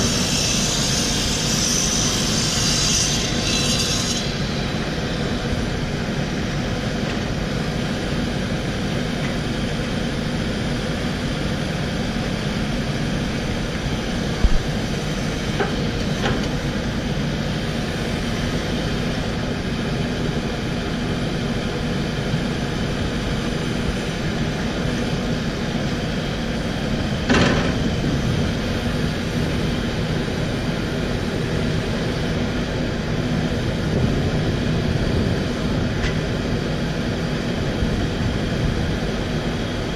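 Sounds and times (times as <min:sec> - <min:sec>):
excavator diesel engine running: 0:04.2 - 0:39.9.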